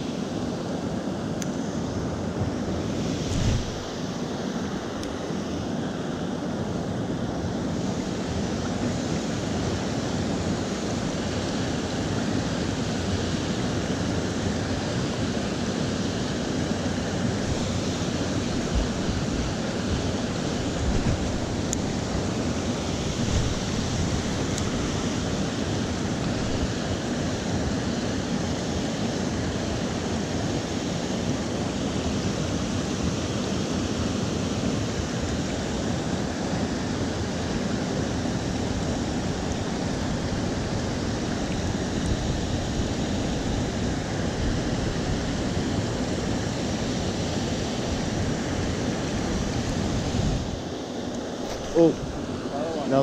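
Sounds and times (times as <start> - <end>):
creek water rushing: 0.0 - 53.0.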